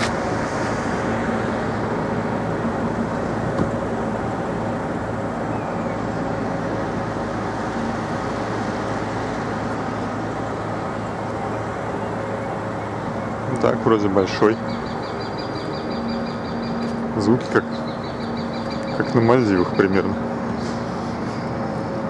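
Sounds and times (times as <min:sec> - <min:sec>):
low hum: 0:00.0 - 0:22.0
road traffic noise: 0:00.0 - 0:22.0.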